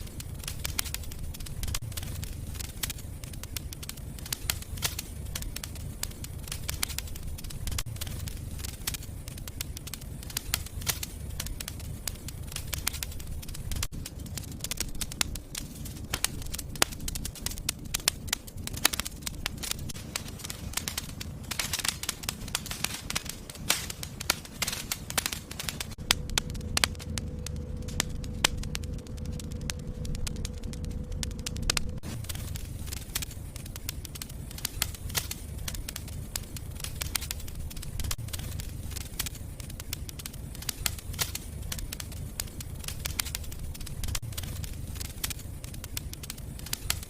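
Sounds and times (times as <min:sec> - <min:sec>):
faint steady hum: 0:00.0 - 0:47.0
low rumble of flame: 0:00.0 - 0:47.0
wood fire crackling and popping: 0:00.0 - 0:47.0.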